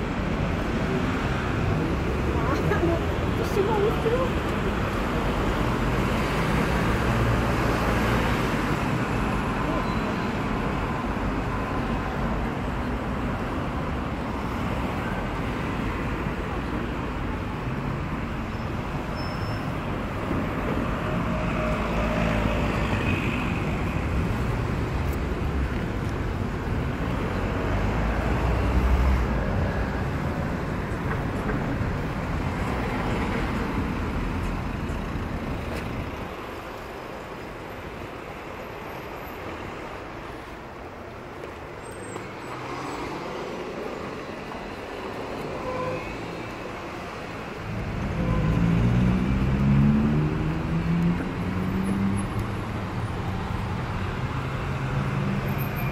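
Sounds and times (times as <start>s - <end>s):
car engines passing and idling: 0.0s - 55.9s.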